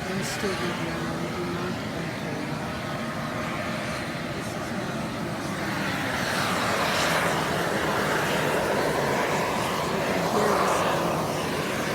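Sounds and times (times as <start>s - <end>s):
hot spring venting steam: 0.0s - 11.9s.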